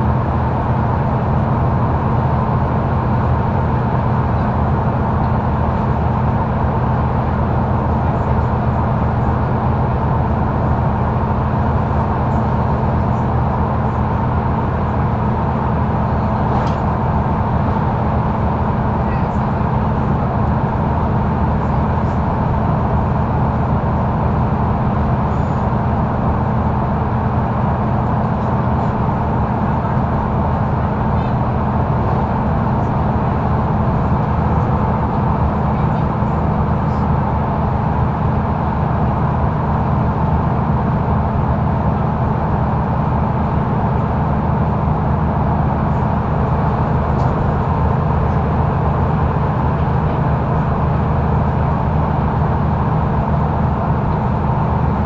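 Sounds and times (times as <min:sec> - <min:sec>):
bus engine droning: 0:00.0 - 0:55.0
road and tyre noise: 0:00.0 - 0:55.0.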